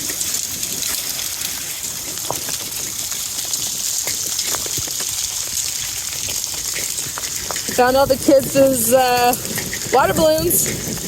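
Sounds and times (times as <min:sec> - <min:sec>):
drips and ticks: 0:00.0 - 0:11.0
running storm water: 0:00.0 - 0:11.0
steady rain: 0:00.0 - 0:11.0.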